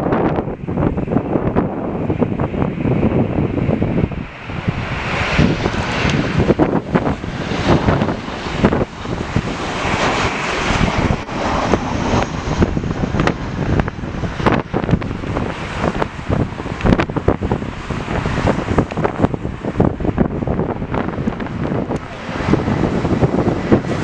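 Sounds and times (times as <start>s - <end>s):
jet airliner engine passing: 0.0s - 24.0s
wind buffeting microphone: 0.0s - 24.0s.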